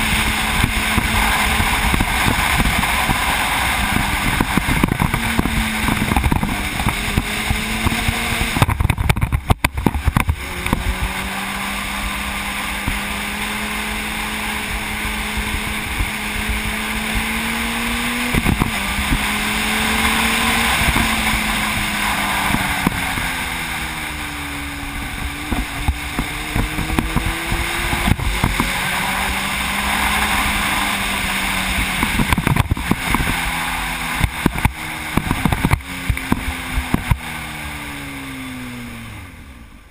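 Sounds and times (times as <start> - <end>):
wind noise on microphone: 0.0 - 39.2
motorcycle engine running: 0.0 - 39.9.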